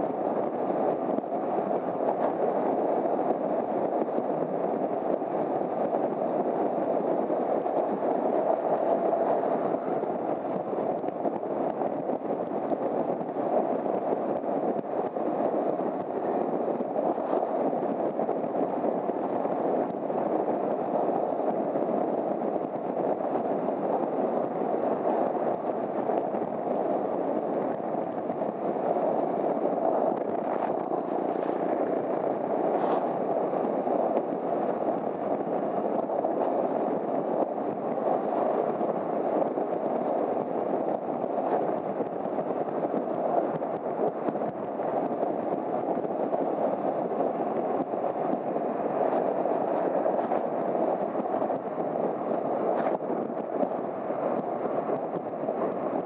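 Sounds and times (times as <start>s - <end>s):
wind rush: 0.0s - 56.0s.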